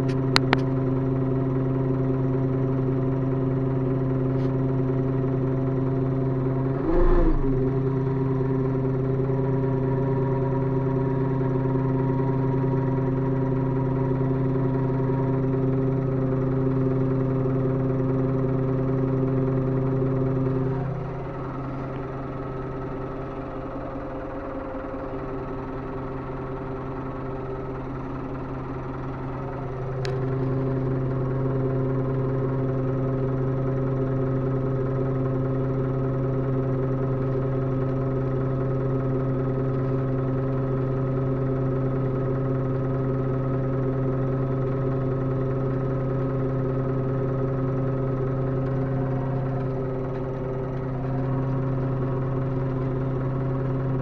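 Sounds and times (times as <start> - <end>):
tractor diesel engine hum: 0.0 - 54.0.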